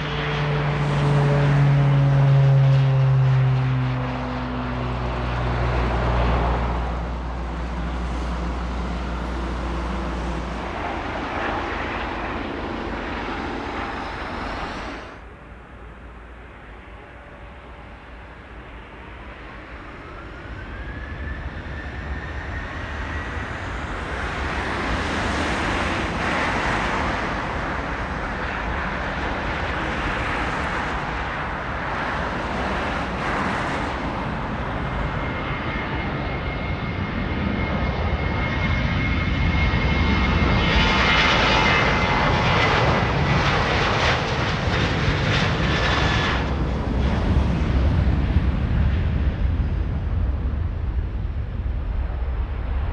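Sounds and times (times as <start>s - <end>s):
high steady engine whine: 0.0s - 52.9s
jet engines spooling up: 5.0s - 52.9s.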